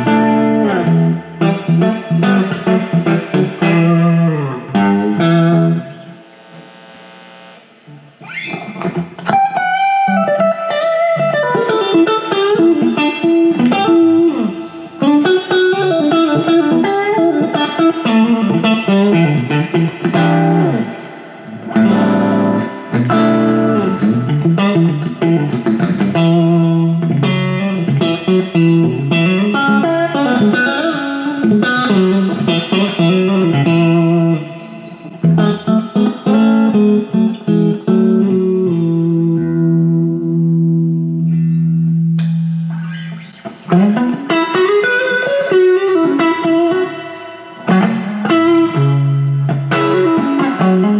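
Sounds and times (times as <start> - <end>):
electric guitar playing: 0.0 - 50.9.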